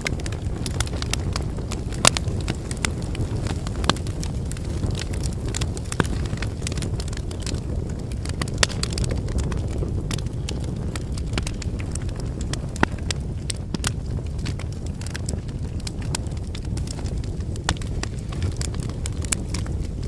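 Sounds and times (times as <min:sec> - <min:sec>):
firewood crackling and popping: 0:00.0 - 0:20.0
wood fire burning: 0:00.0 - 0:20.0.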